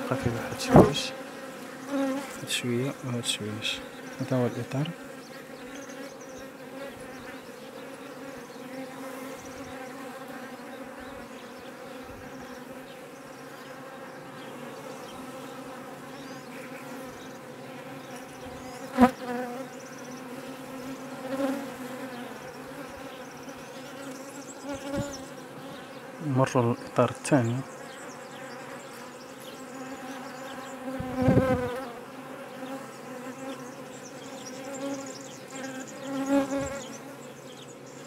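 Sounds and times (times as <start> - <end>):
honeybees humming: 0.0 - 38.0.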